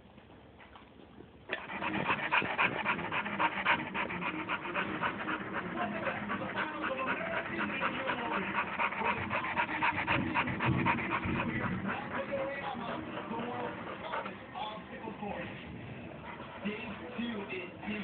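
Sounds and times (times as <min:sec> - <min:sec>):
dog panting: 0:01.5 - 0:18.0.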